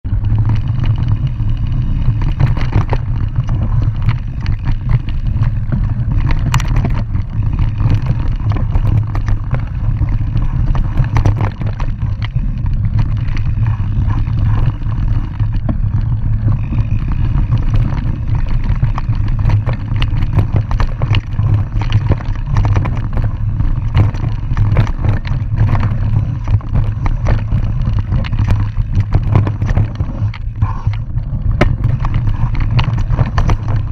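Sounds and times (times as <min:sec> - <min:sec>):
bike rattling and knocking: 0:00.0 - 0:33.9
wind rumble on microphone: 0:00.0 - 0:33.9.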